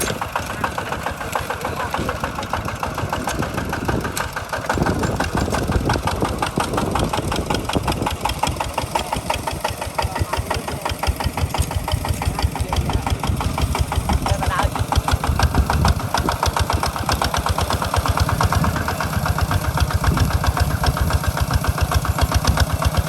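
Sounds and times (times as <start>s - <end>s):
tractor engine chugging: 0.0s - 23.0s.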